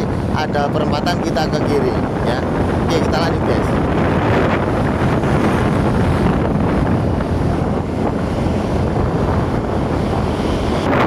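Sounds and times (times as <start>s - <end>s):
road and engine rumble: 0.0s - 11.0s
wind rushing over microphone: 0.0s - 11.0s.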